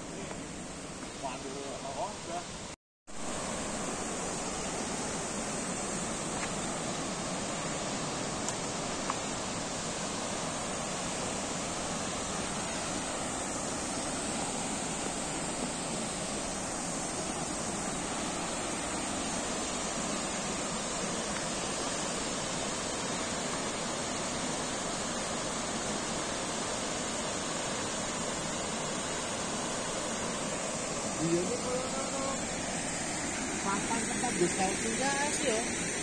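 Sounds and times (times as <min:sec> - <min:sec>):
waterfall rushing: 0:03.2 - 0:35.6.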